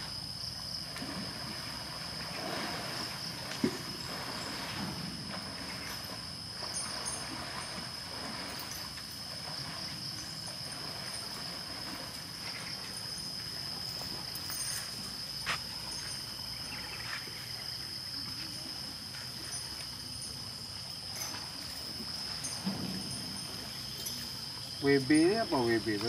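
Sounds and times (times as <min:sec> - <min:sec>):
high-pitched insect drone: 0:00.0 - 0:26.0
water sloshing and splashing: 0:00.0 - 0:26.0.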